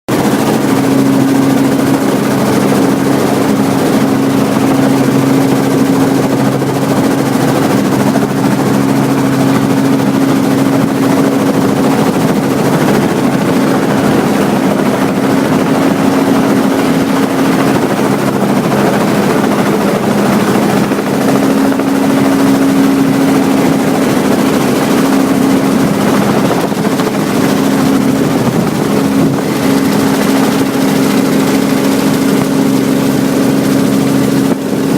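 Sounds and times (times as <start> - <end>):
helicopter engine and rotor drone: 0.1 - 34.9.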